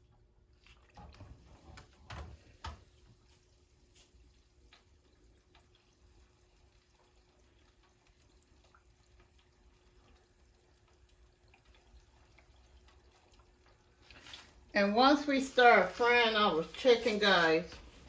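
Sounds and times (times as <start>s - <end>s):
deep fryer hum: 0.0s - 18.0s
hot oil crackling and bubbling: 0.0s - 18.0s.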